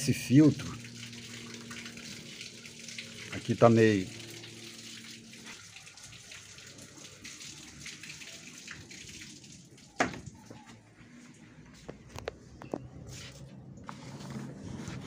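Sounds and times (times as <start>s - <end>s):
faint running water: 0.0s - 12.3s.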